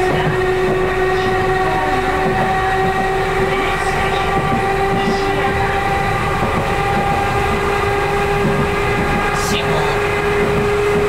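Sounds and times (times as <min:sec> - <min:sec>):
train drive whine: 0:00.0 - 0:11.0
wheels rumbling on rail: 0:00.0 - 0:11.0.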